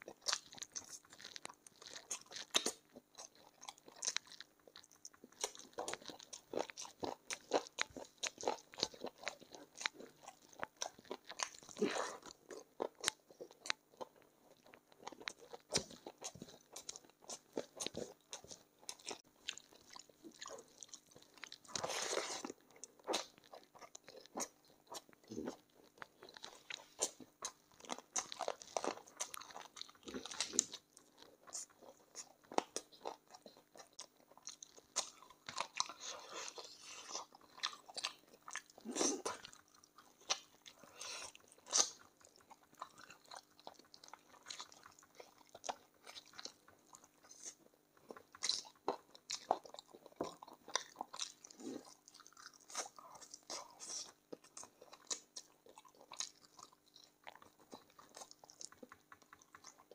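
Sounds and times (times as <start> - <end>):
crunching and chewing: 0.0 - 59.9.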